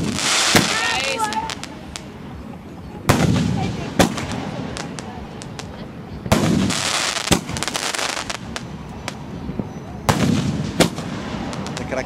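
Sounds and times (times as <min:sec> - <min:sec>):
firework bangs: 0:00.0 - 0:02.2, 0:03.0 - 0:12.0
firework crackling: 0:00.0 - 0:12.0.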